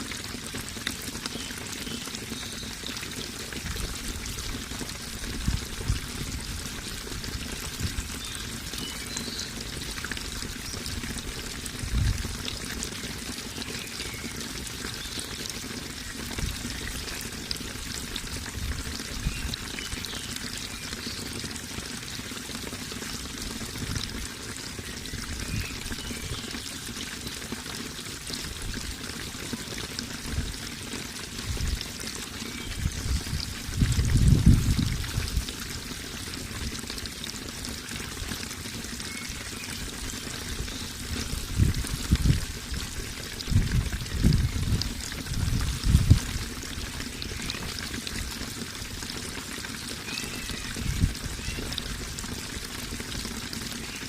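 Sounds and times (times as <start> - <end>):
water pouring and trickling: 0.0 - 54.0.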